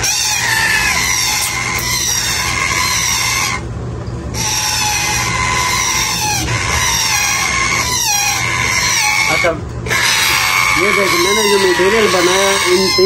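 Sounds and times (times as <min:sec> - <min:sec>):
parakeet chicks begging calls: 0:00.0 - 0:03.7, 0:04.3 - 0:13.0.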